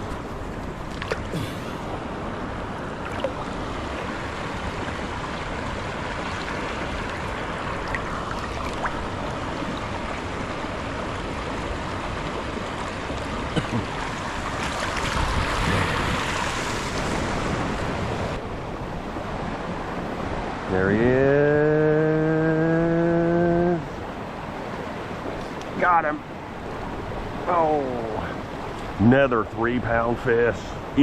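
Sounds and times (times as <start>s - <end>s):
waterfall and rapids rushing: 0.0s - 31.0s.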